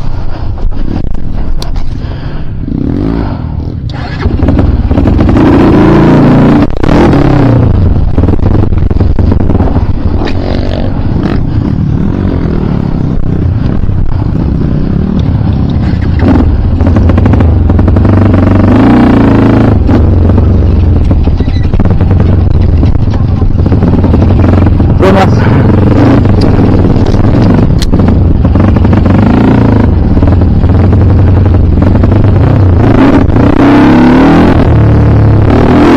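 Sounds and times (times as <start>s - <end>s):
dirt bike engine revving: 2.2s - 35.9s.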